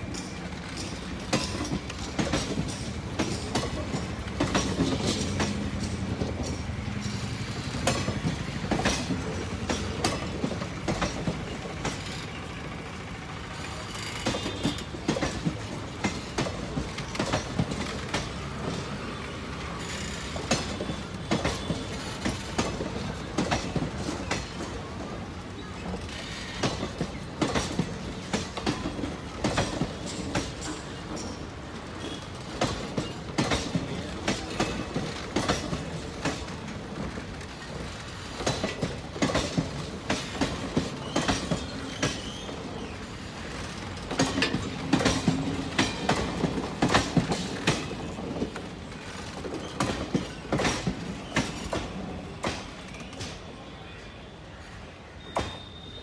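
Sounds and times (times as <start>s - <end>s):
train wheels clacking over rail joints: 0.0s - 53.7s
train rumble: 0.0s - 56.0s.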